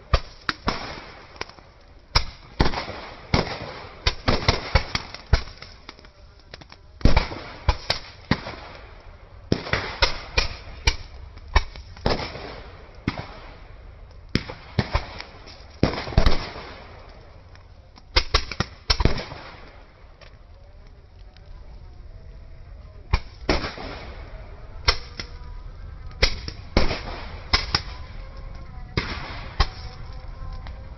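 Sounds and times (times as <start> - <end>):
firecrackers banging: 0.0 - 30.9.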